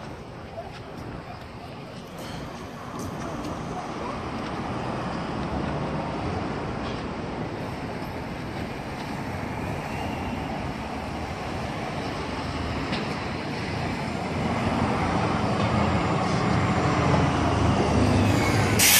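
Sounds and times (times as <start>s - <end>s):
passing cars: 0.0s - 18.9s.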